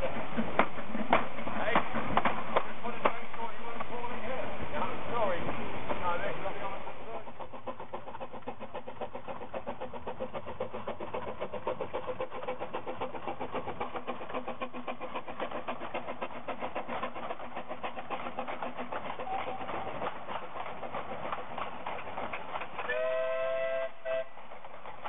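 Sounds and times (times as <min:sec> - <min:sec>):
steam locomotive chuffing: 0:00.0 - 0:25.0.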